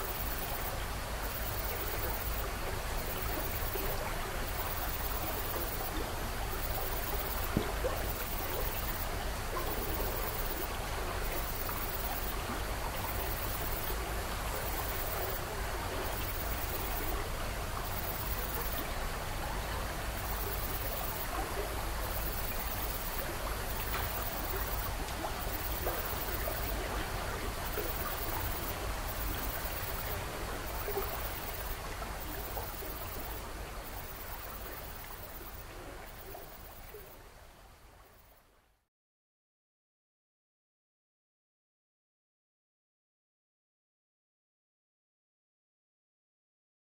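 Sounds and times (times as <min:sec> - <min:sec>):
running water rushing: 0:00.0 - 0:38.1.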